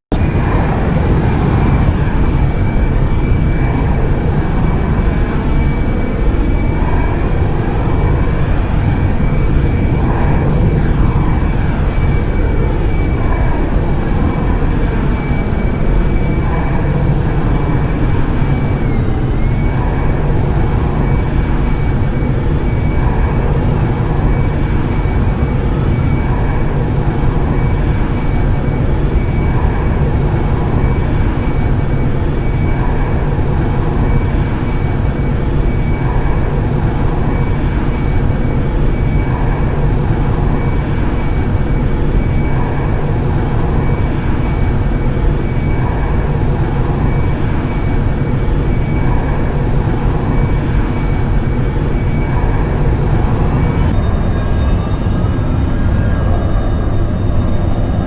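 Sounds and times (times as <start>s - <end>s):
jet engine roar and whine: 0.0s - 58.0s.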